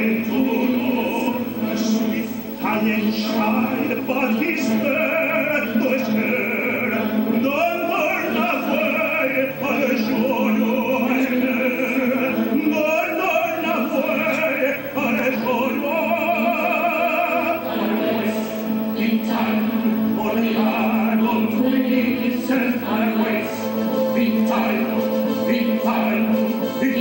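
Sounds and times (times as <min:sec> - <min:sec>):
classical music accompaniment: 0:00.0 - 0:27.0
operatic singing: 0:00.0 - 0:27.0.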